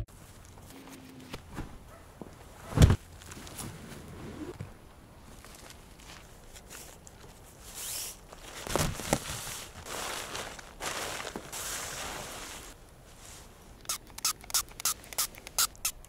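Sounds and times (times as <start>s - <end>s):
rustling footsteps outdoors: 0.1s - 13.8s.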